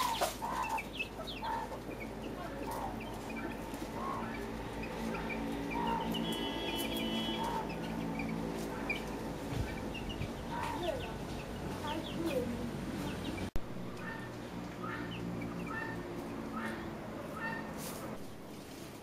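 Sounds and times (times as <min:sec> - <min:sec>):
chicks peeping: 0:00.0 - 0:17.9
hen clucking: 0:00.0 - 0:17.9.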